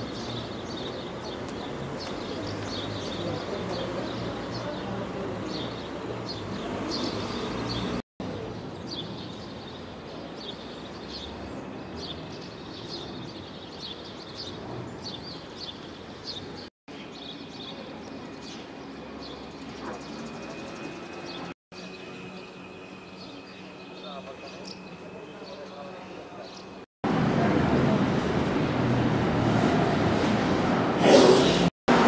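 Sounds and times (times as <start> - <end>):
birds chirping and twittering: 0.0 - 26.9
outdoor background noise: 0.0 - 32.0.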